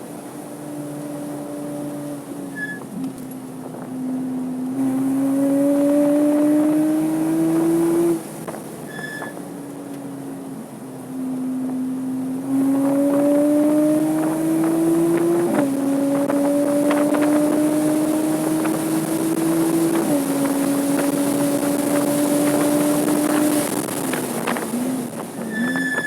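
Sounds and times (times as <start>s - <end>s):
car engine at full throttle: 0.0s - 26.0s.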